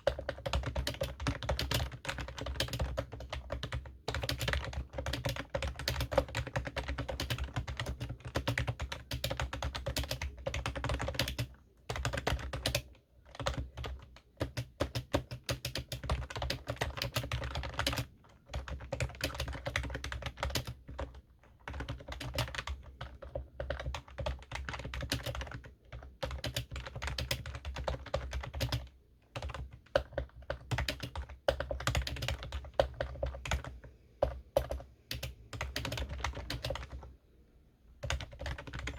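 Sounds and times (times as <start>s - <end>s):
keyboard typing: 0.0s - 37.1s, 38.0s - 38.9s.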